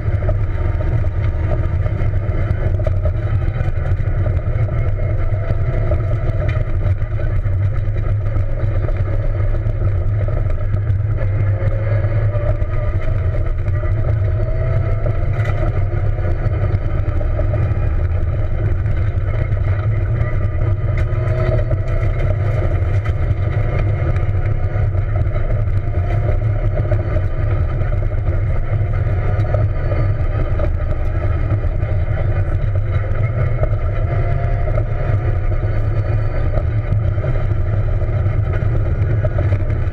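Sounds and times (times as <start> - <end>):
car engine drone: 0.0 - 39.9
tyres rumbling on dirt road: 0.0 - 39.9.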